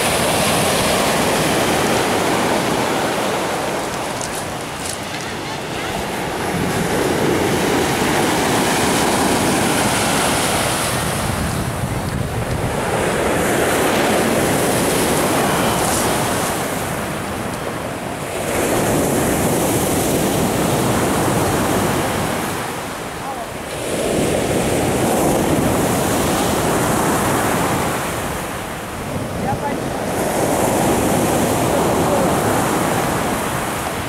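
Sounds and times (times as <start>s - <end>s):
surf washing over pebbles: 0.0s - 34.0s.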